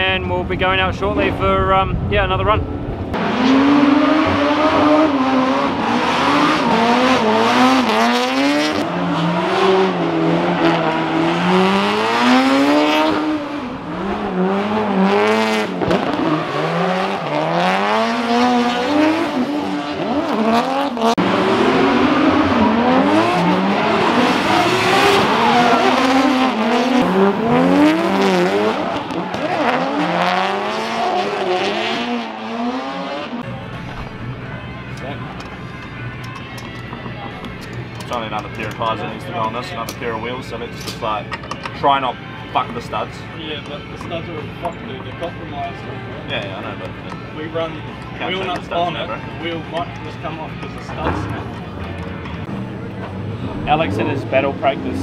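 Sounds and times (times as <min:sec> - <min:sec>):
car engine revving: 0:01.2 - 0:41.4, 0:42.0 - 0:55.0.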